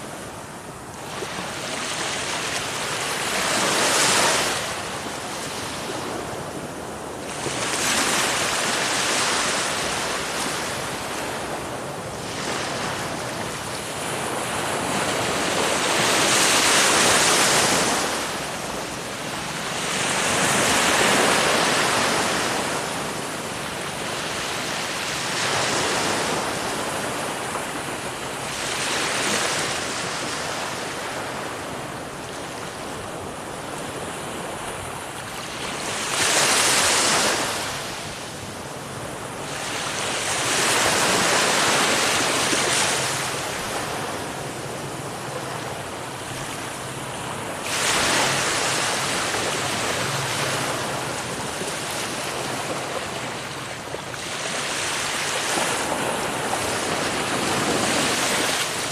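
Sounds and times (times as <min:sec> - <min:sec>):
waves breaking: 0:00.0 - 0:58.9.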